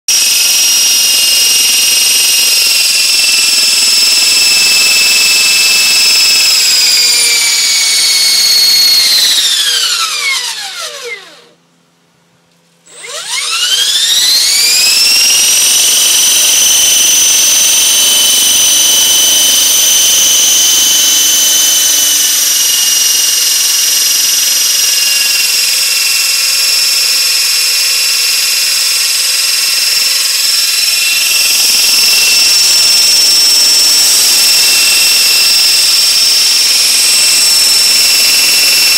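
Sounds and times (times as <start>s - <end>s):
electric motor gear whine: 0.1s - 11.6s, 12.9s - 38.9s.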